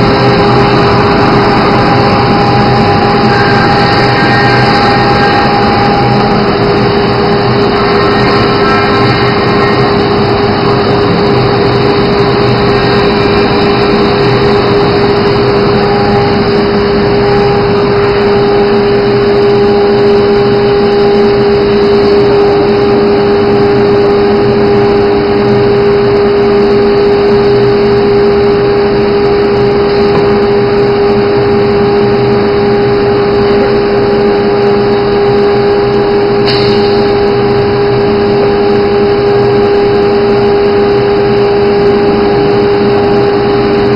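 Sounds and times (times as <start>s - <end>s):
cnc router running: 0.0s - 43.9s
spindle steady tone: 0.0s - 43.9s.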